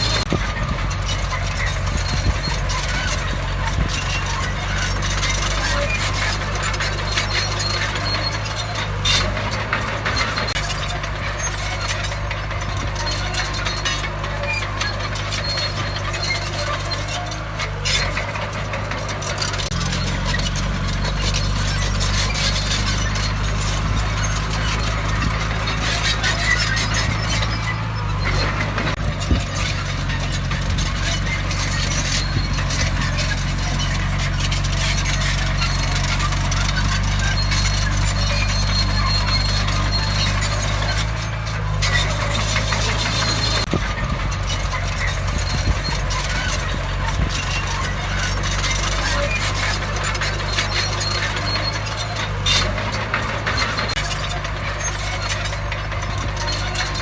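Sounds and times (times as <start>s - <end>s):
diesel machinery running: 0.0s - 57.0s
grinding crackling noise: 0.0s - 57.0s
high-pitched squeals: 0.0s - 57.0s.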